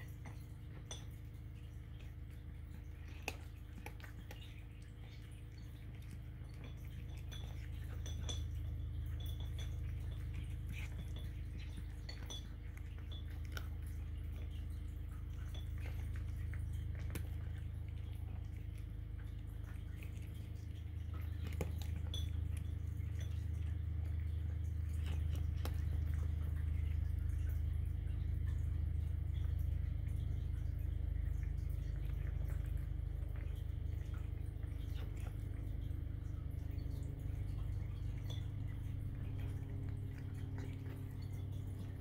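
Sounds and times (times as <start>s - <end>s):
cat crunching dry kibble: 0.0s - 42.0s
low steady hum: 0.0s - 42.0s.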